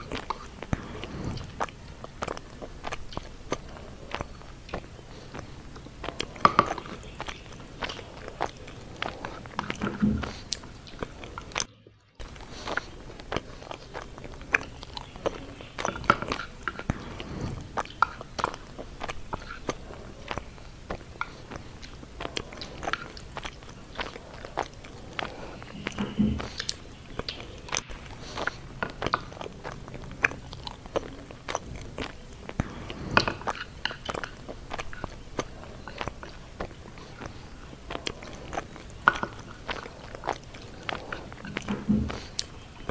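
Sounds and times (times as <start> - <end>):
chewing and mouth sounds: 0.0 - 42.9.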